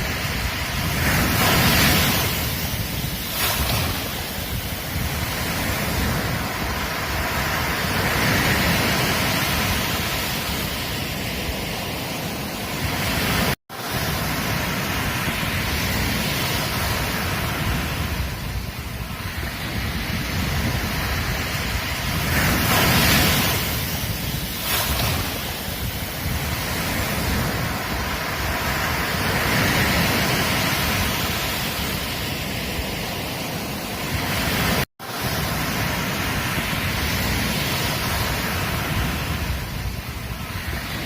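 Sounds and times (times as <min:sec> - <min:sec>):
ocean waves breaking on beach: 0:00.0 - 0:41.0.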